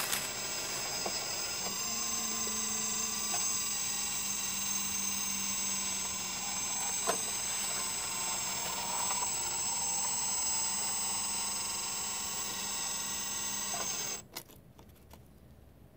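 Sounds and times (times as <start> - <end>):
hydraulic pump whining: 0.0 - 14.2.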